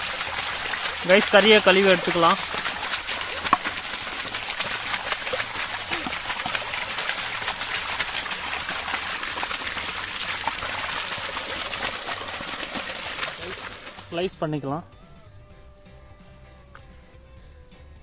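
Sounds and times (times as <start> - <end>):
water running: 0.0 - 14.4.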